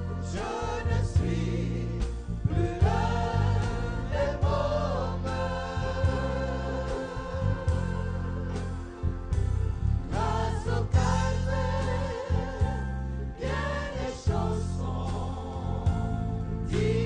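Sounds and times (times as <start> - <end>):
instrumental backing with bass: 0.0 - 17.0
people singing into microphones: 0.0 - 17.0.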